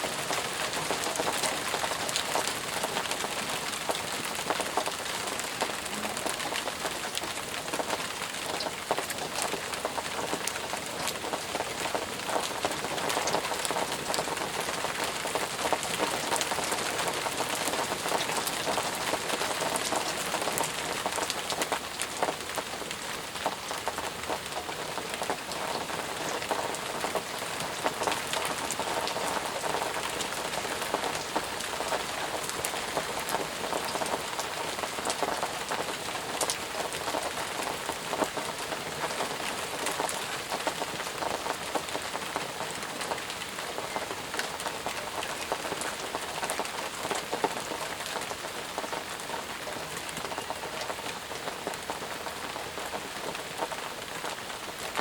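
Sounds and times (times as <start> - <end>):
heavy steady rain: 0.0 - 55.0.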